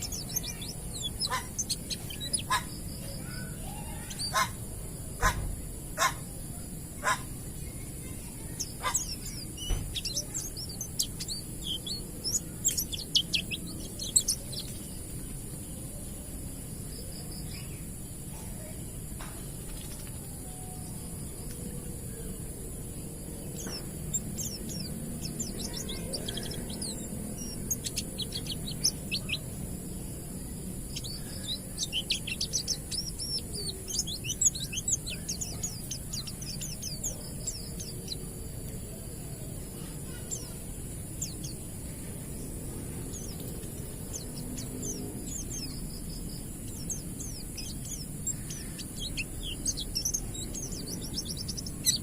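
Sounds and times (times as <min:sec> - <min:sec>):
bird high chirps and trills: 0:00.0 - 0:52.0.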